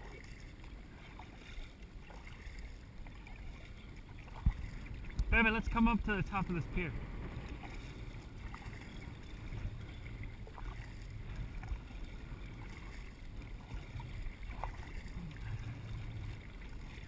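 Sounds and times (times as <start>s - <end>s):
faint water sounds: 0.0s - 17.0s
wind rumble on microphone: 3.0s - 17.0s.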